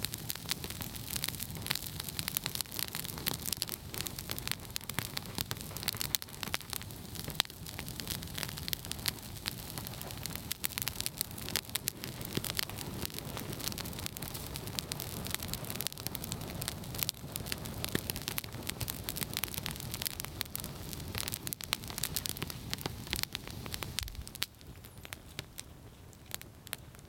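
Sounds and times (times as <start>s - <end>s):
flame rushing: 0.0s - 26.0s
campfire crackling and popping: 0.0s - 27.0s.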